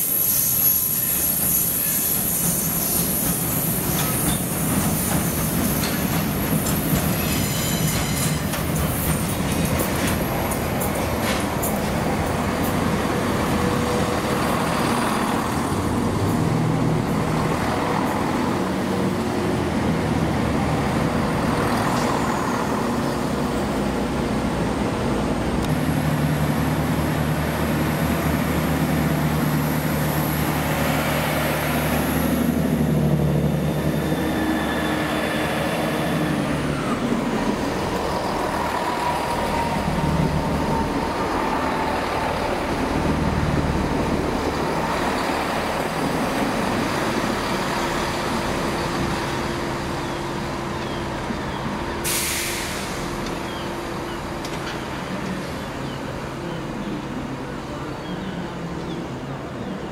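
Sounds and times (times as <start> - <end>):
diesel train engines running: 0.0 - 59.9.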